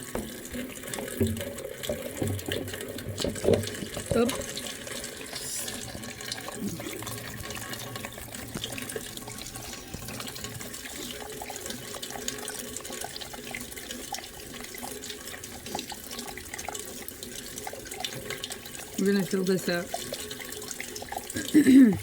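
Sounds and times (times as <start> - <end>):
rainwater running and splashing: 0.0 - 22.0
small drips and ticks: 0.0 - 22.0.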